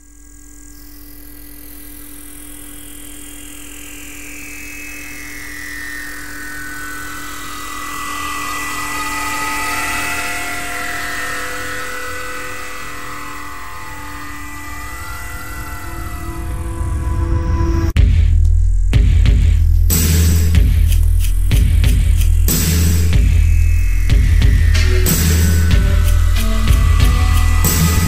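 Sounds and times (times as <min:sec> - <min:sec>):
sustained synth pad tones: 0:00.0 - 0:18.0, 0:23.1 - 0:28.0.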